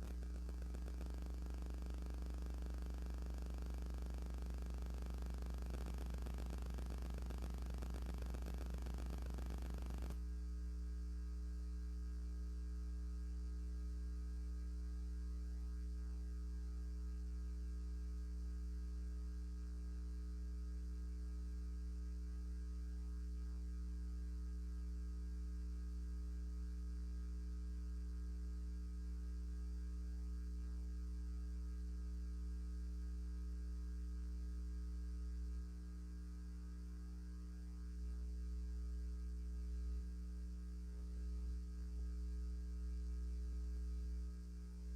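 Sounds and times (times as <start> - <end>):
electrical mains hum: 0.0 - 44.9.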